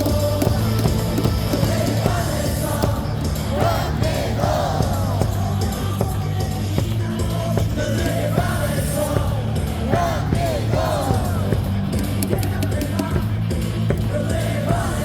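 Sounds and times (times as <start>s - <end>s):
loud amplified music with beat: 0.0s - 15.0s
stadium crowd singing and shouting: 0.0s - 15.0s.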